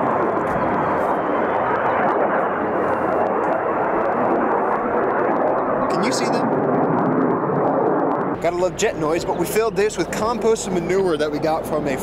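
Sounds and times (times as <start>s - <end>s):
jet aircraft flying overhead: 0.0s - 12.0s.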